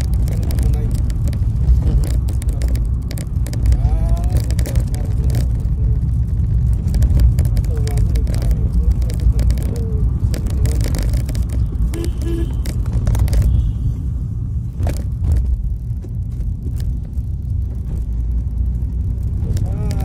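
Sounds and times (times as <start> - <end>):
knocks and rattles: 0.0 - 13.6, 14.7 - 20.0
engine and road rumble: 0.0 - 20.0.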